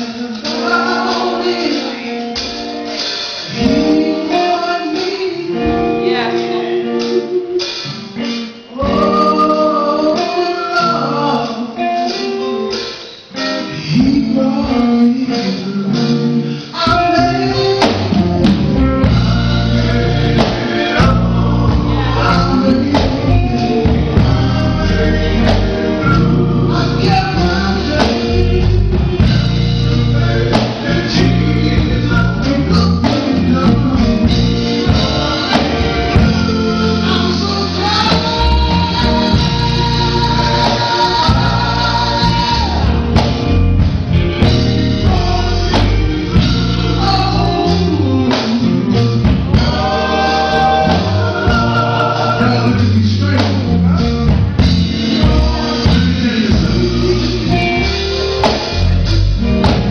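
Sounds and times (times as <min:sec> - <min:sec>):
bass and drums beat: 0:00.0 - 0:59.9
guitar: 0:00.0 - 0:59.9
person singing gospel: 0:00.0 - 0:59.9.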